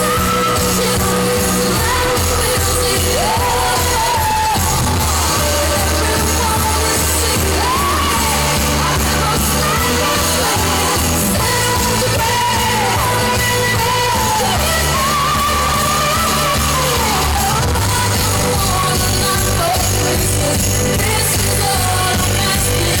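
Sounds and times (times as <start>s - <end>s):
loud pop music with singing: 0.0s - 23.0s.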